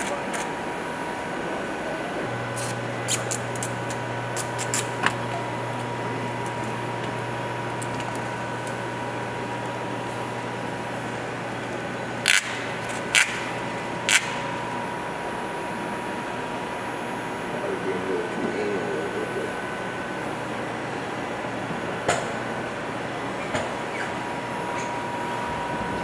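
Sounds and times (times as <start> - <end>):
ventilation hum and hiss: 0.0 - 26.0.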